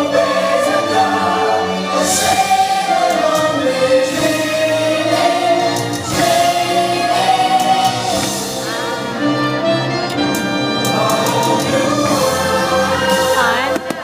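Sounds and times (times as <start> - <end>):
choir singing held notes: 0.0 - 14.0
orchestral music: 0.0 - 14.0.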